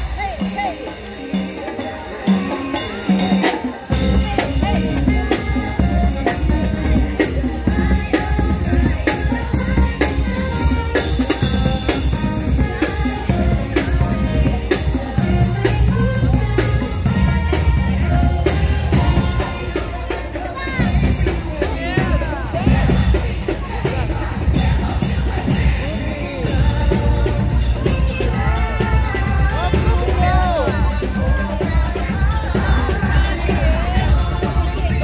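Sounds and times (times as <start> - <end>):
driving drum beat: 0.0 - 35.0
upbeat parade music: 0.0 - 35.0.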